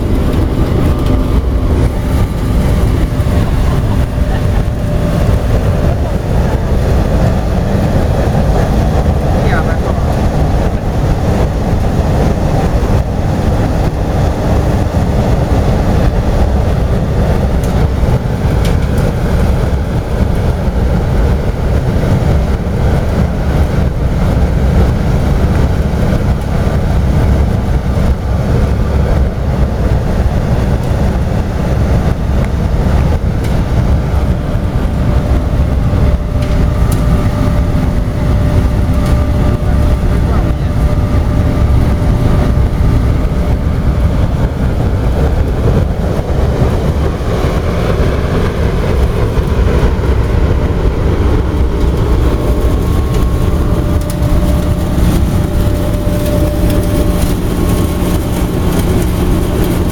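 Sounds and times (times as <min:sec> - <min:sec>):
burner flame rushing: 0:00.0 - 0:59.9.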